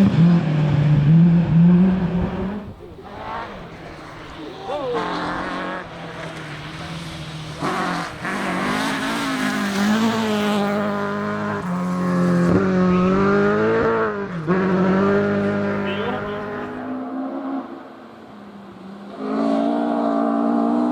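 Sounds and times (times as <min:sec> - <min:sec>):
rally car engine revving: 0:00.0 - 0:20.9.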